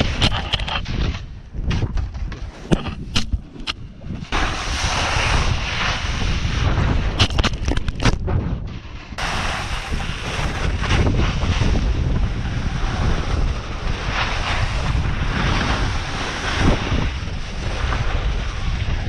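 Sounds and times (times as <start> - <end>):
snowboard edges scraping snow: 0.0 - 1.3, 2.4 - 19.0
wind buffeting microphone: 0.0 - 19.0.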